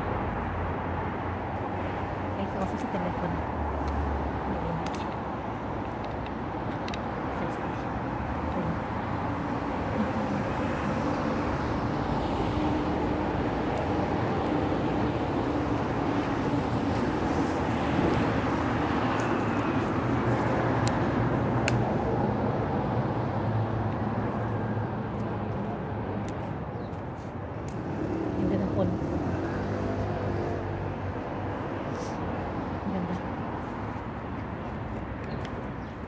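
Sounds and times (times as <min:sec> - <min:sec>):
passing traffic rumble: 0:00.0 - 0:36.0.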